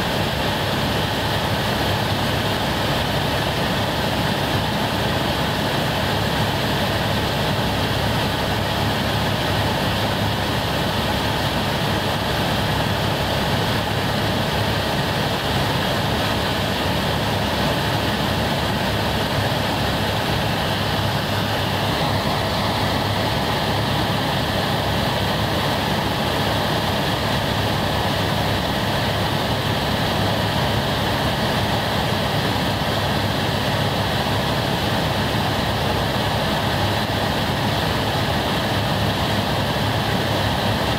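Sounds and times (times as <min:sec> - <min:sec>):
helicopter cabin drone: 0:00.0 - 0:40.9
high turbine whine: 0:00.0 - 0:40.9.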